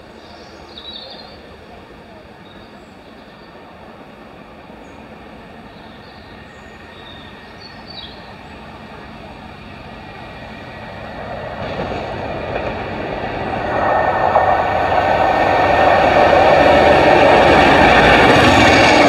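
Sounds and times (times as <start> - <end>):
diesel locomotive approaching: 0.0 - 19.0.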